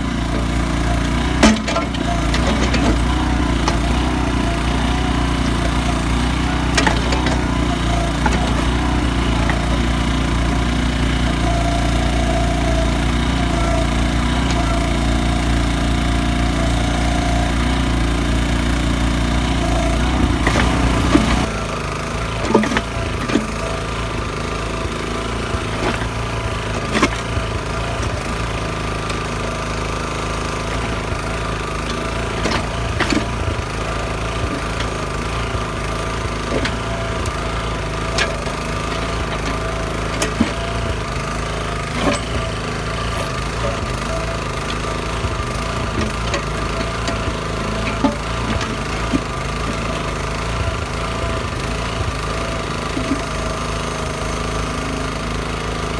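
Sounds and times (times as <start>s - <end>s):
digging knocks and scrapes: 0.0s - 55.8s
small engine running: 0.0s - 55.9s.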